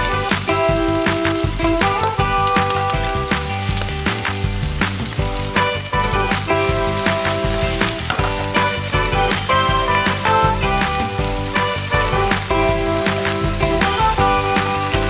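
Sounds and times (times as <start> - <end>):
background music with held notes: 0.0 - 15.0
food sizzling in a frying pan: 0.0 - 15.0.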